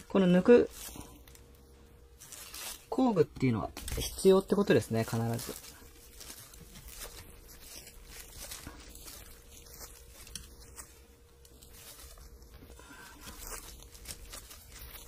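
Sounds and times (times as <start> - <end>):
plastic glove crinkling: 0.0 - 15.0.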